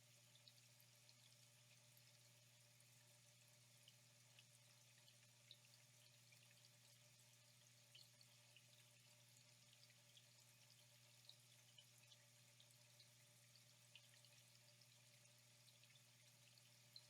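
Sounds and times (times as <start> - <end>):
trickling water: 0.0 - 17.0.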